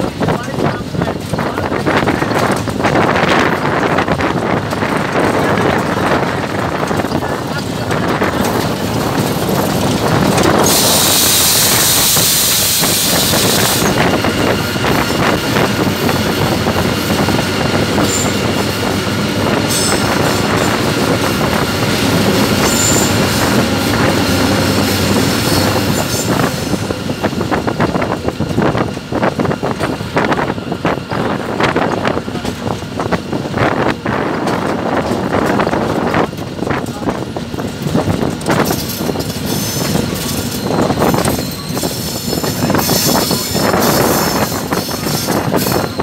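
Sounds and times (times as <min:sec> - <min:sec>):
diesel locomotive running: 0:00.0 - 0:46.0
wheels clicking on rails: 0:00.0 - 0:46.0.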